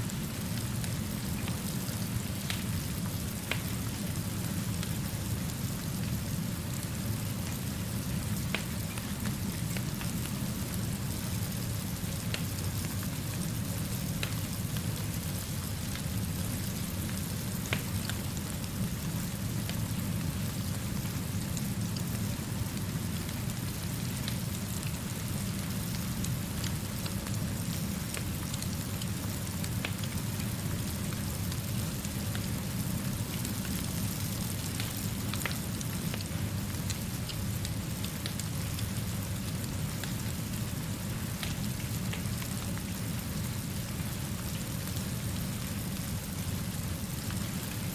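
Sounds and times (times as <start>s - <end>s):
steady rainfall: 0.0s - 47.9s
fire crackling: 0.1s - 47.9s.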